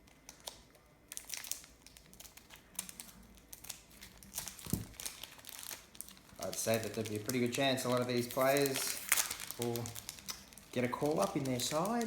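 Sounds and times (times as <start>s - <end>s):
card pack wrapper crinkling: 0.0s - 12.0s.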